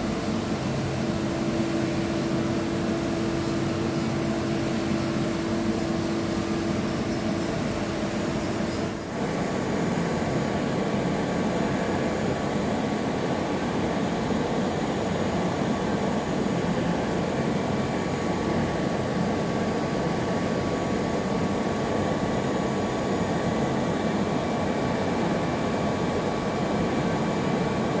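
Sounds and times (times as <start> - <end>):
faint steady whine: 0.0 - 28.0
machine hiss and hum: 0.0 - 28.0.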